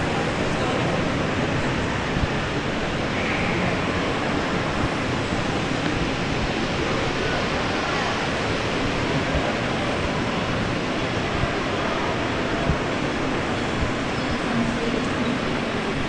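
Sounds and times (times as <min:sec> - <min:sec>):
distant crowd voices: 0:00.0 - 0:16.0.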